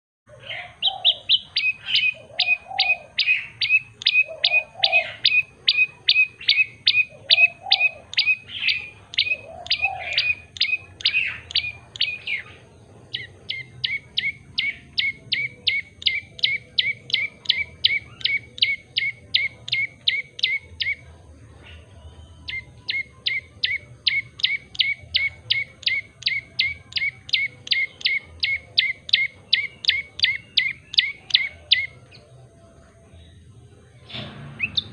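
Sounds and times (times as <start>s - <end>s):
bird singing sharp chip notes: 0.4s - 32.3s, 33.2s - 34.9s
lower bird calls: 0.4s - 32.3s, 33.2s - 34.9s.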